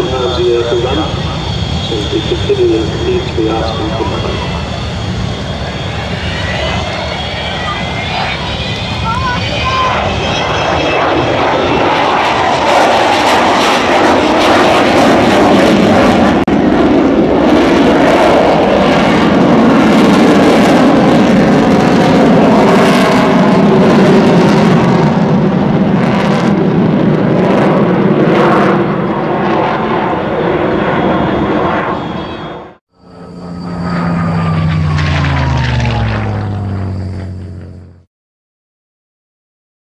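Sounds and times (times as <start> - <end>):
jet aircraft passing: 0.0 - 38.1.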